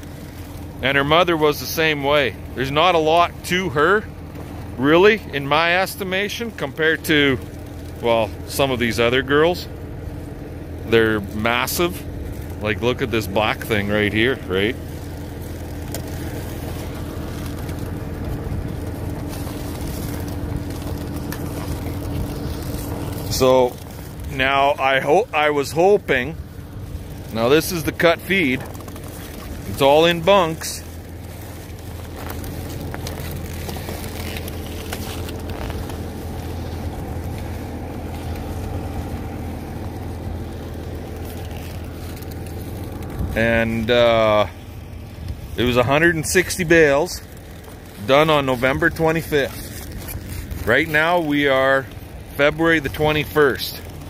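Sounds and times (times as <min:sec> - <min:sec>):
engine humming: 0:00.0 - 0:54.0
faint crackles: 0:00.0 - 0:54.0.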